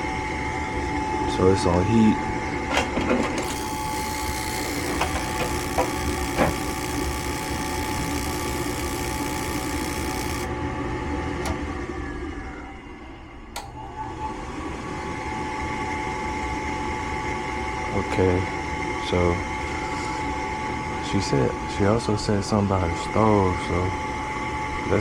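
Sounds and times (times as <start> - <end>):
furnace motor hum with whine: 0.0 - 25.0.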